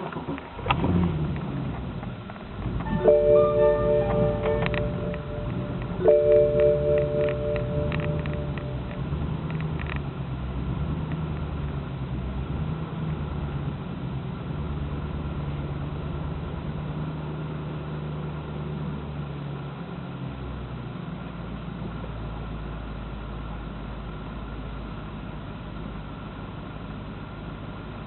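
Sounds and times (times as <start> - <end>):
car engine idling with misfire: 0.0 - 28.0.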